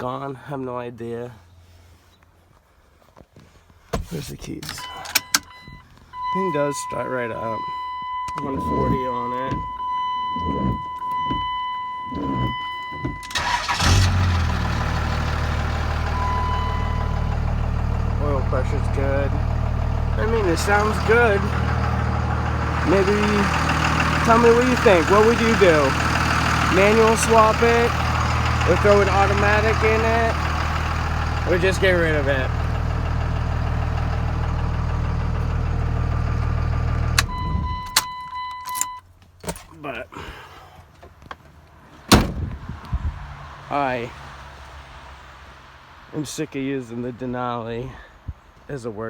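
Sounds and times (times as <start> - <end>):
diesel engine cranking and idling: 4.5 - 46.4.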